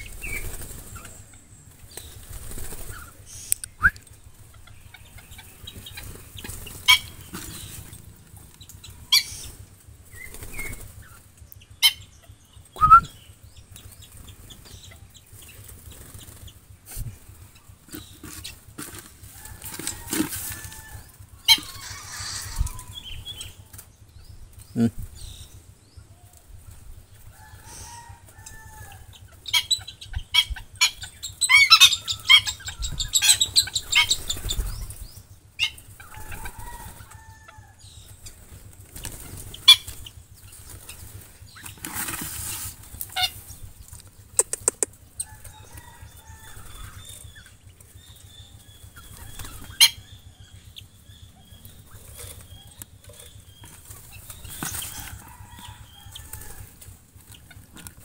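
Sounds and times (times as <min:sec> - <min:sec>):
birds flapping wings: 0:00.0 - 0:11.5, 0:13.7 - 0:25.2, 0:30.8 - 0:48.0, 0:48.8 - 0:50.1, 0:51.7 - 0:58.0
birds squawking: 0:00.0 - 0:26.1, 0:27.1 - 0:58.0.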